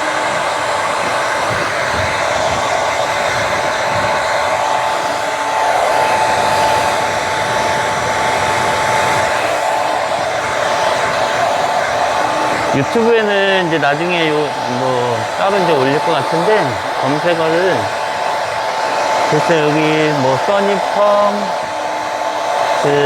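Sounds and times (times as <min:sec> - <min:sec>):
hair dryer blowing: 0:00.0 - 0:23.0.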